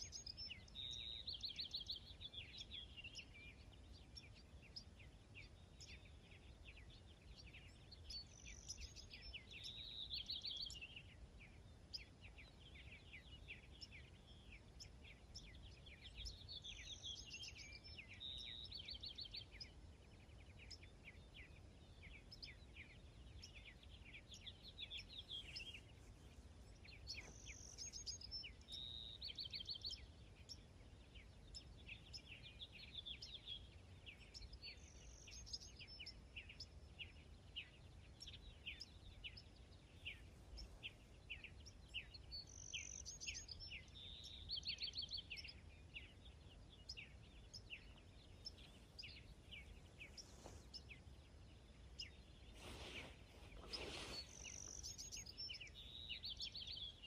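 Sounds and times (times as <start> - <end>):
songbirds chirping: 0.0 - 57.0
trilled bird song: 0.0 - 57.0.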